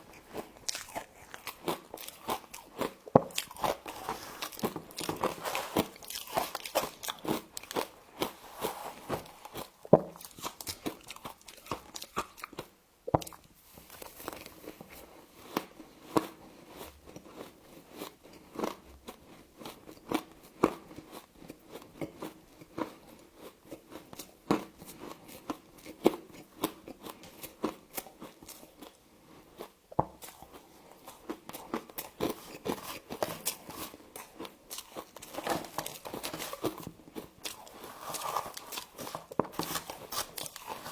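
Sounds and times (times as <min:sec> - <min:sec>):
frost being chewed crunching: 0:00.0 - 0:40.9.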